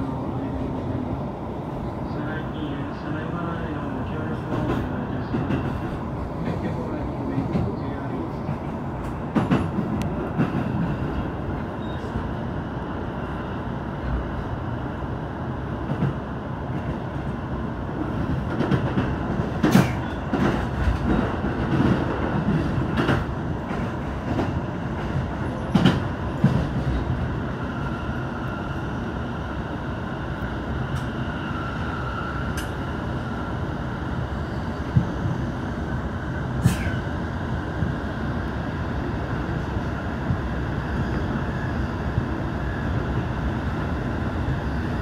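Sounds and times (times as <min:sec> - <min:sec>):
train running noise: 0:00.0 - 0:45.0.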